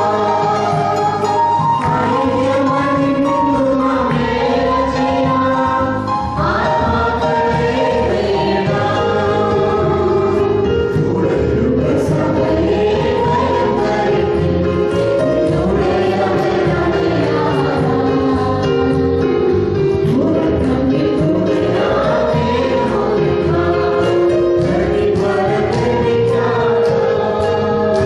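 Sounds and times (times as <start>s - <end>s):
group singing in harmony: 0.0s - 28.0s.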